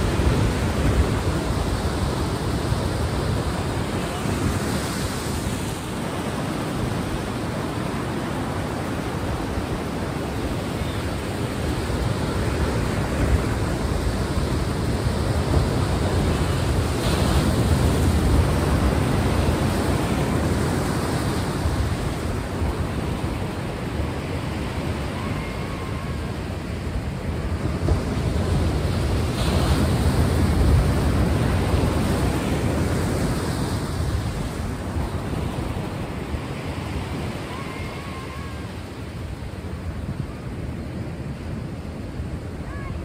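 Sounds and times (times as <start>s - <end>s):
sea waves breaking: 0.0s - 43.0s.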